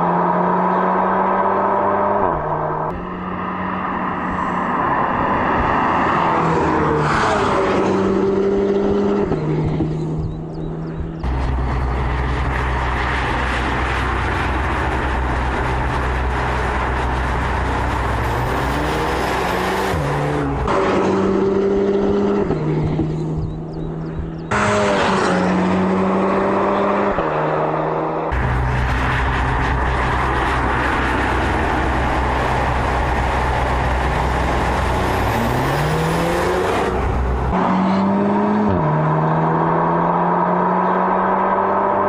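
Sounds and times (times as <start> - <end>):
car engine droning while driving: 0.0 - 42.0.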